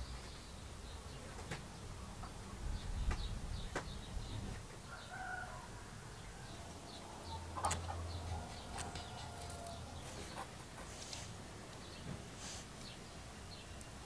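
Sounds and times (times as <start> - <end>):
bird calls: 0.0 - 14.0.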